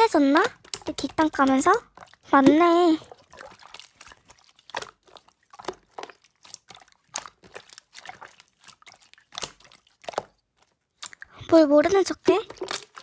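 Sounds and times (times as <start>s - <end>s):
slime squelching by hand: 0.0s - 13.0s.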